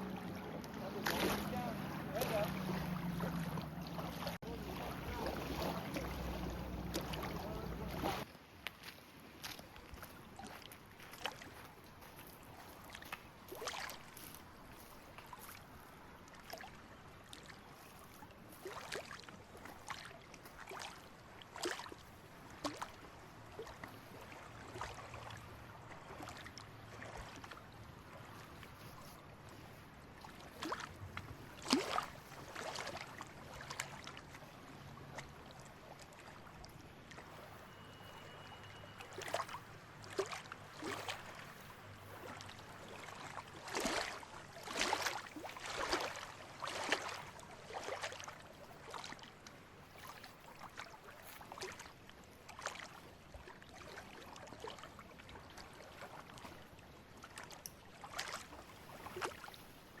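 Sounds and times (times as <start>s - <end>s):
lake water lapping and splashing: 0.0s - 60.0s.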